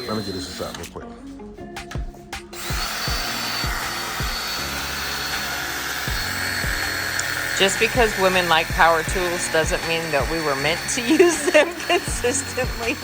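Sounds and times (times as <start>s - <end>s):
power drill whining: 0.0s - 1.0s, 1.8s - 13.0s
background music with beat: 0.0s - 13.0s.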